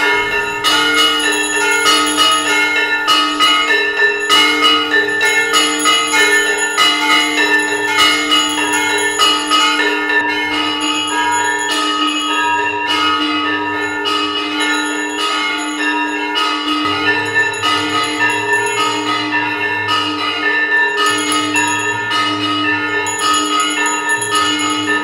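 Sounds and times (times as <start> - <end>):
temple bells ringing: 0.0 - 25.0.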